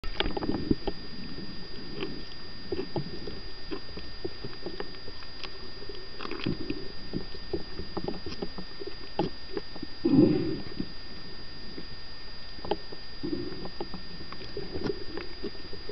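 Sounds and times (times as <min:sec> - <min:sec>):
faint high whine: 0:00.0 - 0:15.9
low rumble of water: 0:00.0 - 0:15.9
underwater clicks and crackles: 0:00.0 - 0:15.9.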